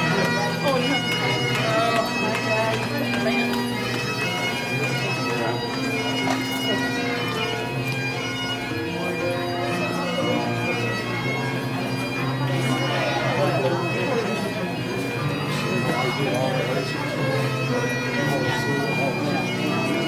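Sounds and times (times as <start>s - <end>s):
bagpipes playing slow tune: 0.0s - 20.0s.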